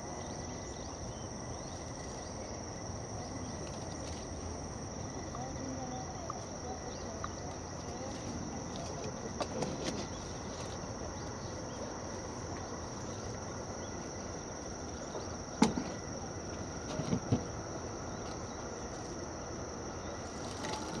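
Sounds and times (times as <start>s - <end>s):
crickets trilling: 0.0s - 21.0s
low outdoor background: 0.0s - 21.0s.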